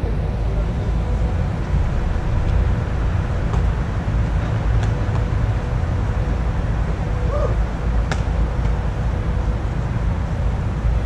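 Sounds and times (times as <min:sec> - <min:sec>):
faint steady hum: 0:00.0 - 0:11.0
low outdoor rumble: 0:00.0 - 0:11.0.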